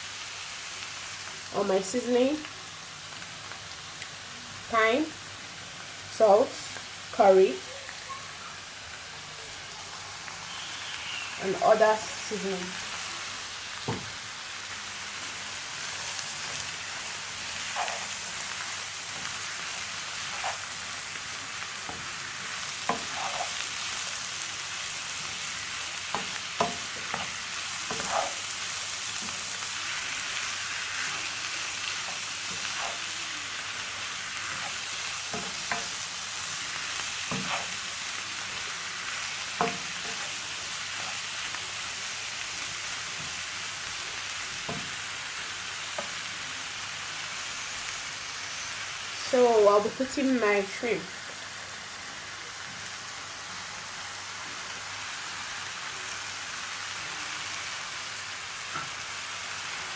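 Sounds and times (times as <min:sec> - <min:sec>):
vegetables sizzling in a pan: 0:00.0 - 0:59.9.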